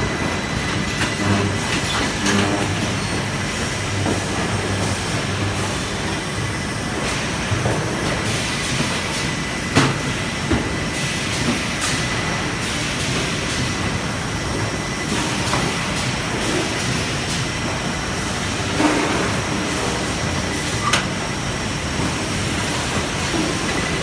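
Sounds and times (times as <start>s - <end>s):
welding machinery running: 0.0s - 24.0s.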